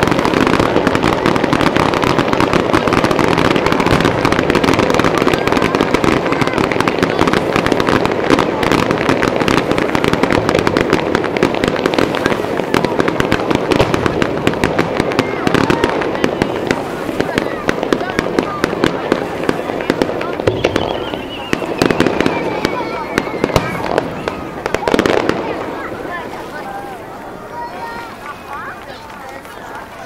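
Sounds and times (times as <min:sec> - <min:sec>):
fireworks popping and crackling: 0:00.0 - 0:30.0.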